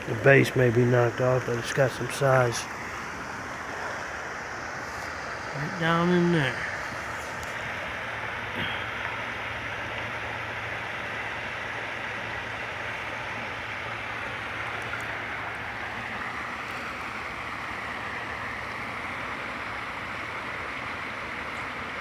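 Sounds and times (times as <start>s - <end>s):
creek water rushing: 0.0s - 22.0s
low steady hum: 0.0s - 22.0s.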